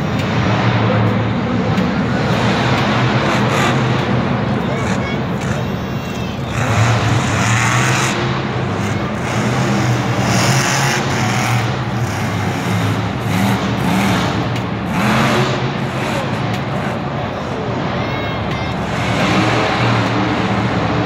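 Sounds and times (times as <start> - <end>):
truck engine revving: 0.0 - 18.0, 18.6 - 21.0.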